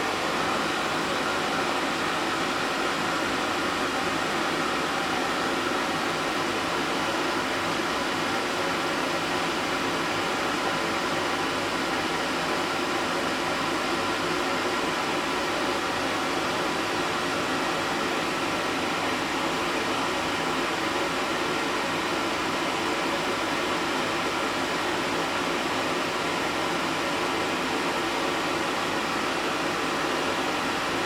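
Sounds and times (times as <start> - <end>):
machine hum with hiss: 0.0 - 31.0.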